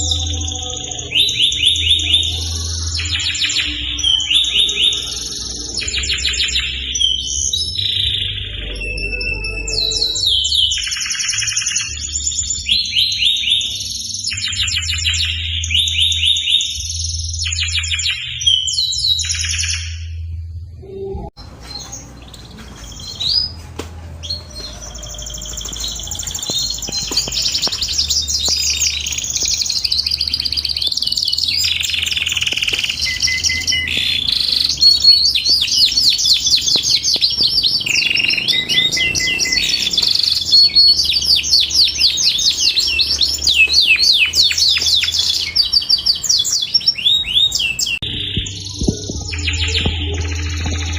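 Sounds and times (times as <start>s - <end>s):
canary singing trills: 0.0s - 23.6s, 24.2s - 50.9s.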